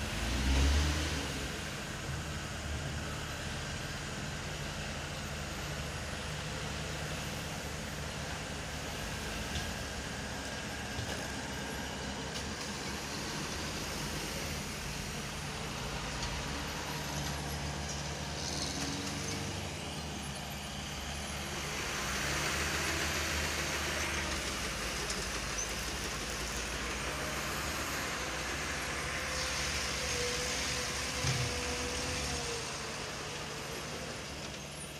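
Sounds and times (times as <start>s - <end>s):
bulldozer diesel engine: 0.0s - 34.9s
dump truck diesel engine: 0.0s - 34.9s.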